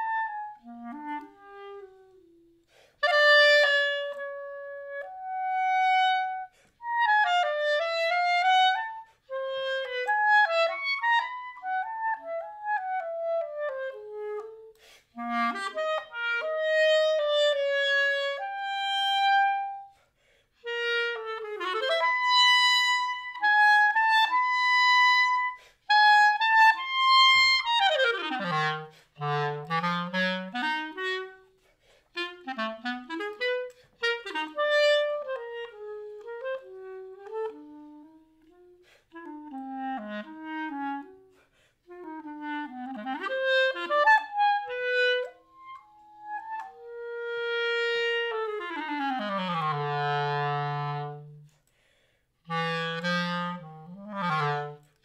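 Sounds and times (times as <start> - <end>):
solo clarinet playing: 0.0 - 55.0.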